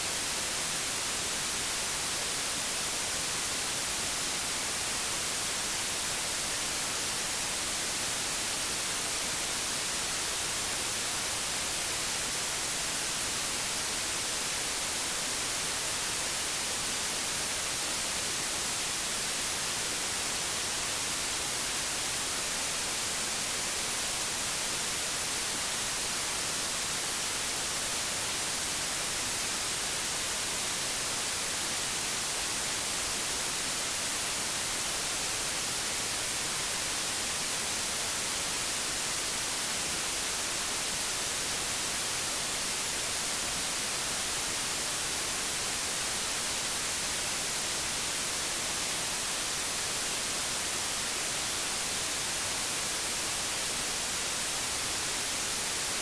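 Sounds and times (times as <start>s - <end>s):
television static hiss: 0.0s - 56.0s.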